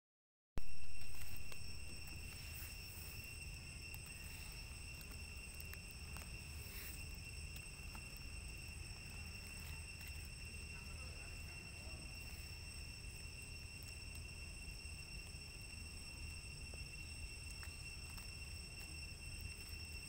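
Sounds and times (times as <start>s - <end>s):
insects buzzing: 0.6s - 20.0s
leaf litter ticks: 0.6s - 20.0s.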